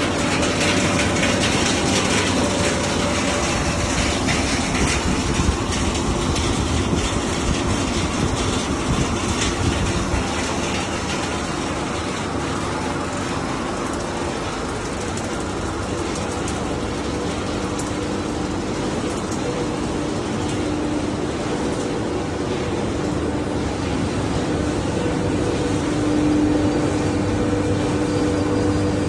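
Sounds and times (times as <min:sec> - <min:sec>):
production line machinery drone: 0:00.0 - 0:29.0.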